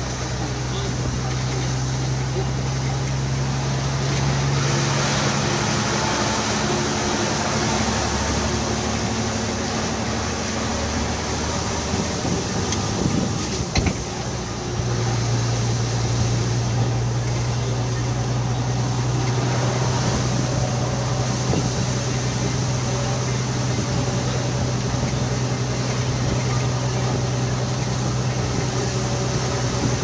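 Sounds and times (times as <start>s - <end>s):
truck engine drone: 0.0s - 30.0s.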